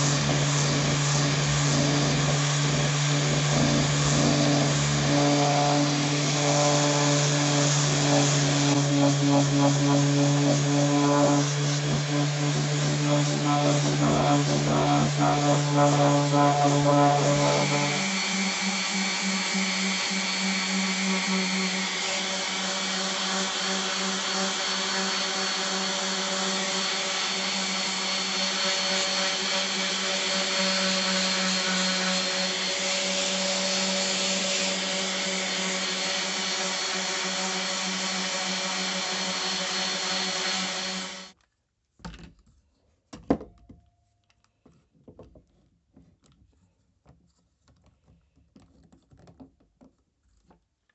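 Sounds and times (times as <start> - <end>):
orbital sander sanding wood: 0.0 - 41.4.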